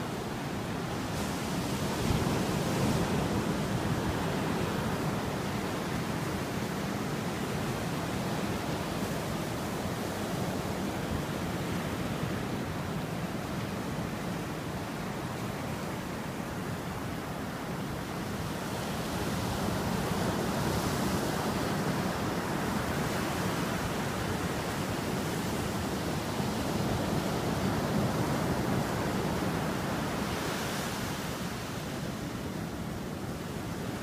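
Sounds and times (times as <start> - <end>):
ocean surf on beach: 0.0 - 34.0.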